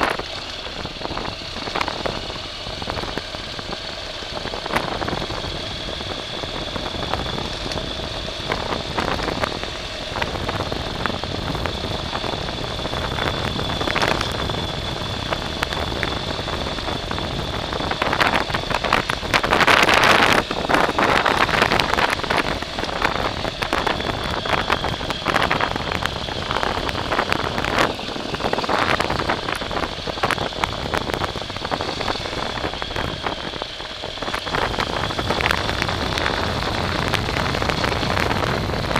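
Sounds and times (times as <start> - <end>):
high-pitched vehicle whine: 0.0 - 38.9
wheels crunching on dirt: 0.0 - 38.9.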